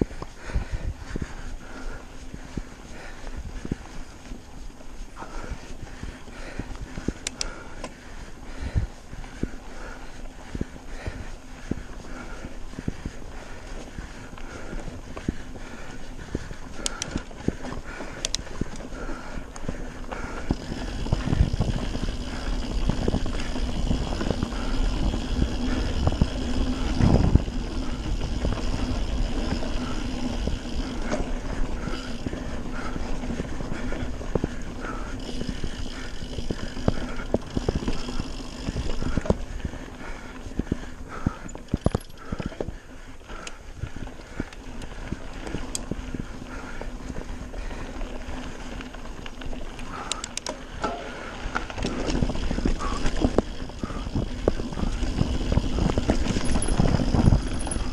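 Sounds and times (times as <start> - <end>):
bike rattling over bumps: 0.0 - 57.9
bike tyres rolling on dirt: 0.0 - 57.9.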